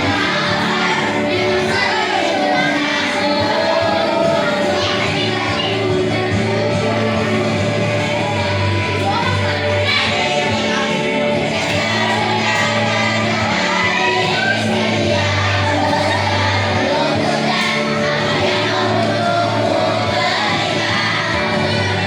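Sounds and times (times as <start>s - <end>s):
backing track with low notes: 0.0s - 22.0s
voices singing together: 0.0s - 22.0s.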